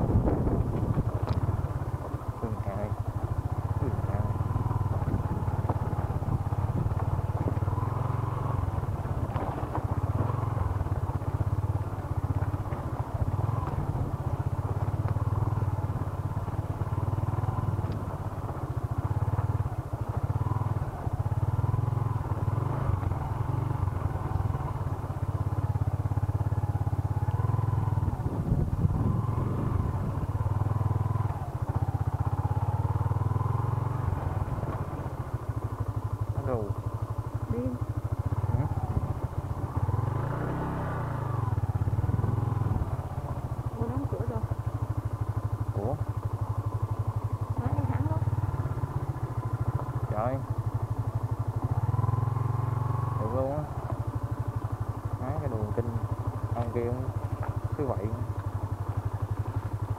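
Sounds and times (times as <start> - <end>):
motorcycle engine running at low revs: 0.0 - 59.9.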